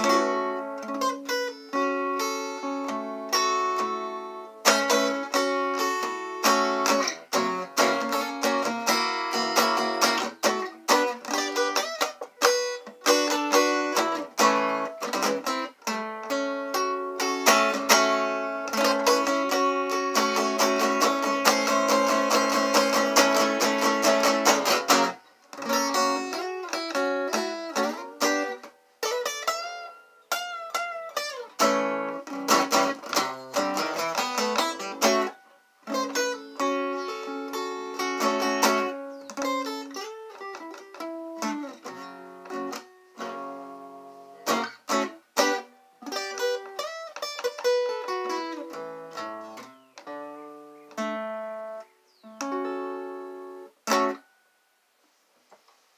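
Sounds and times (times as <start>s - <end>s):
acoustic guitar plucking and strumming: 0.0s - 54.4s.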